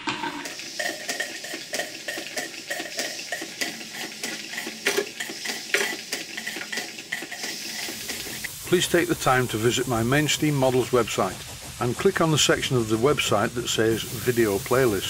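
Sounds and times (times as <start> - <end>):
metallic clicking of steam engine: 0.0 - 15.0
steam hiss: 0.2 - 15.0.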